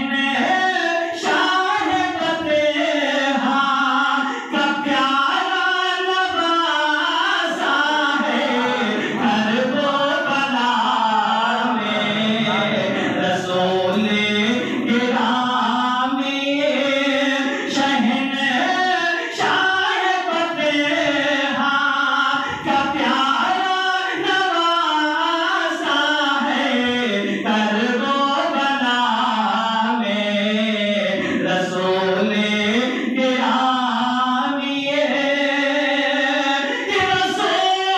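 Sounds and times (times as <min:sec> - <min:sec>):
man chanting over loudspeaker: 0:00.0 - 0:37.9.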